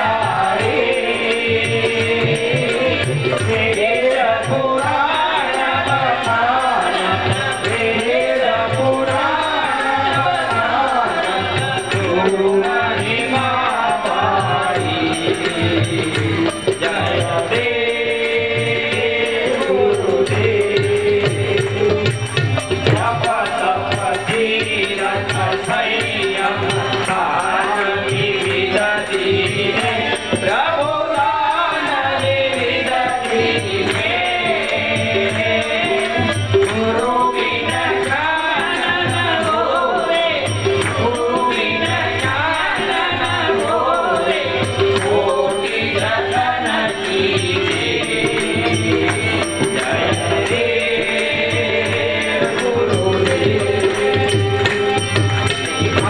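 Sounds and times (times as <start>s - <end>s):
group singing a hymn: 0.0s - 56.0s
man singing into a microphone: 0.0s - 56.0s
sharp metallic percussion ticks: 0.0s - 56.0s.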